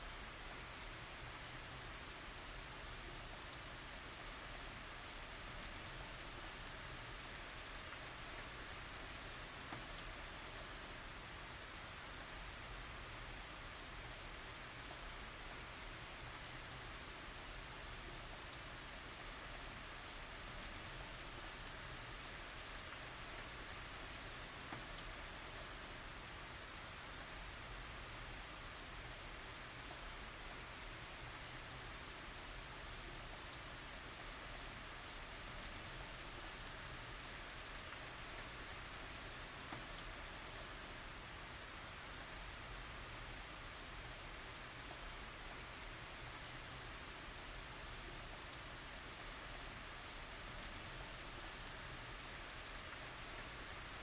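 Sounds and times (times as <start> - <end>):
rain falling: 0.0 - 54.0
rain drop ticks: 0.1 - 54.0.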